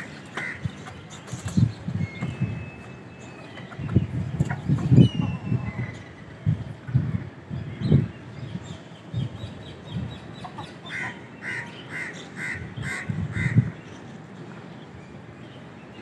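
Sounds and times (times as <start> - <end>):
wind buffeting microphone: 0.0 - 10.9, 12.3 - 15.3.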